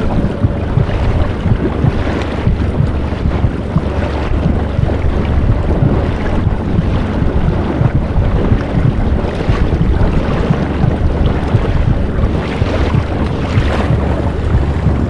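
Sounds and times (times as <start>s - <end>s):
water rushing past boat: 0.0s - 15.0s
wind buffeting microphone: 0.0s - 15.0s.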